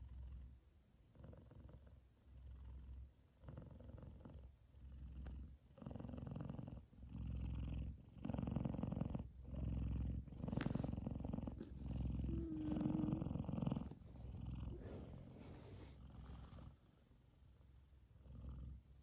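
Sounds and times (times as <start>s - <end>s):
cat purring loudly: 1.1s - 17.0s, 18.1s - 19.0s.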